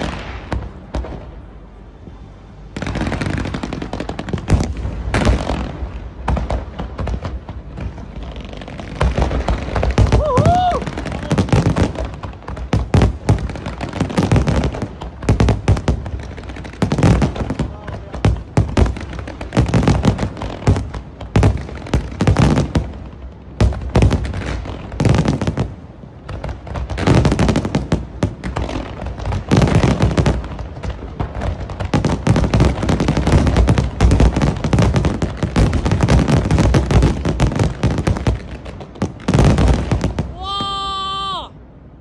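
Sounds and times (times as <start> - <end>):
fireworks bursting: 0.0 - 41.5.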